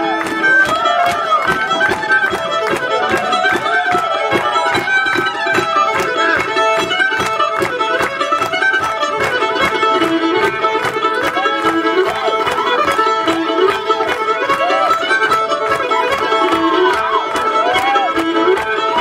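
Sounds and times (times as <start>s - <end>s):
fiddle: 0.0s - 19.0s
string band playing: 0.0s - 19.0s.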